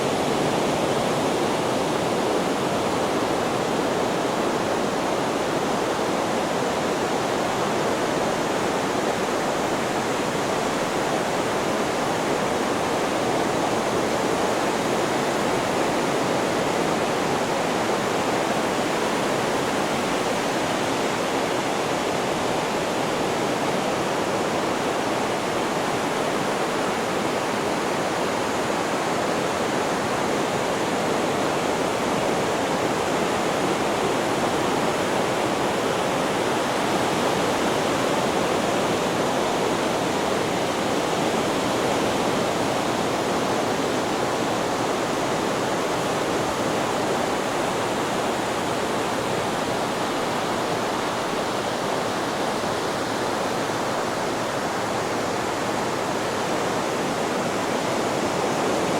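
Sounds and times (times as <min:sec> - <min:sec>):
white noise rushing: 0:00.0 - 0:58.9.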